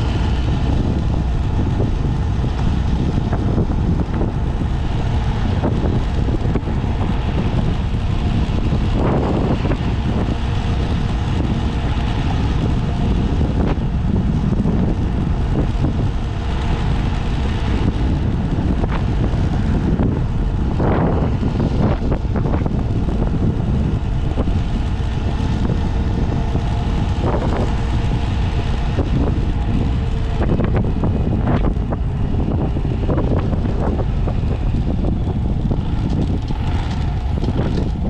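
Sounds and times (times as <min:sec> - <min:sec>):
motorcycle engine running: 0:00.0 - 0:38.0
wind buffeting microphone: 0:00.0 - 0:38.0.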